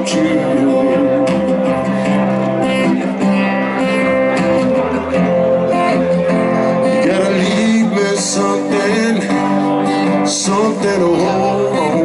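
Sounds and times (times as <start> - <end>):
guitar: 0.0 - 12.0
live band music: 0.0 - 12.0.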